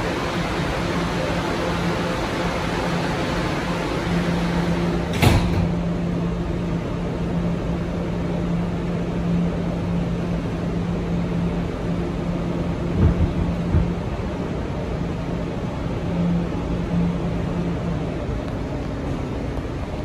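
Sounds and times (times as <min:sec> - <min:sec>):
subway train electrical hum: 0:00.0 - 0:20.0.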